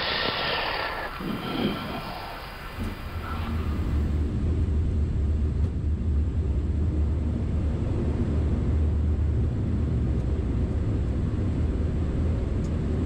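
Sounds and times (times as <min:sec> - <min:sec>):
aircraft cockpit rumble: 0:00.0 - 0:13.0.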